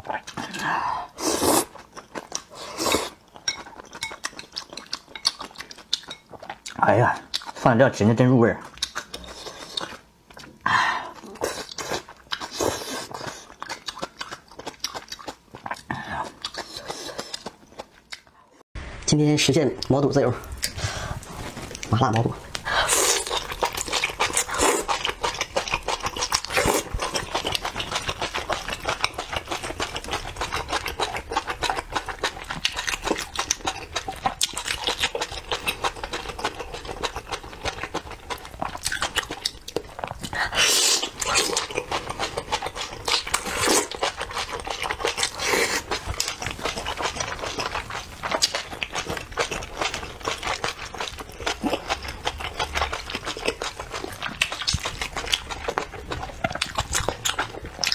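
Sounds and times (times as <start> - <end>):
wet chewing sounds: 0.0 - 7.9, 8.5 - 18.6, 19.8 - 57.9.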